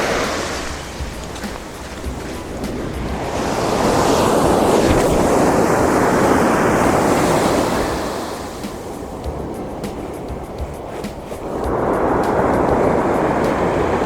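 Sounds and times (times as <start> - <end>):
ocean waves washing on beach: 0.0 - 14.0.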